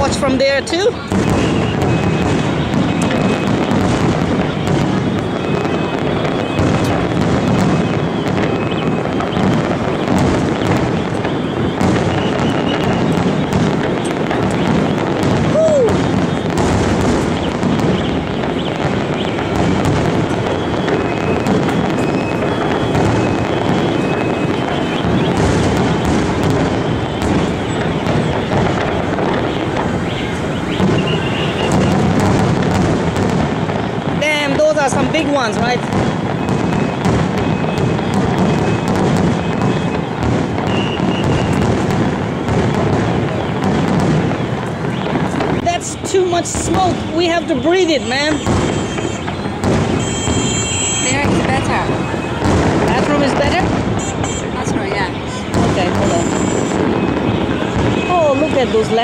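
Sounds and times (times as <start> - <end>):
fireworks cracks and pops: 0.0 - 59.0
fireworks rumble: 0.0 - 59.0.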